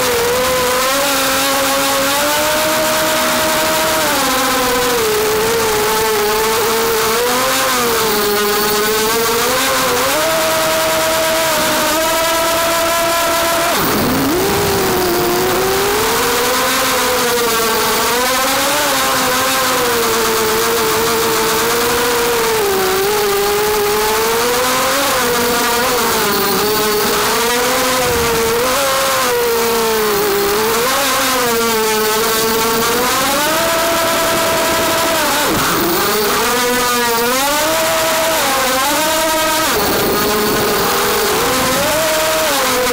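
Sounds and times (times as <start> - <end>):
quadcopter motors buzzing: 0.0 - 42.9.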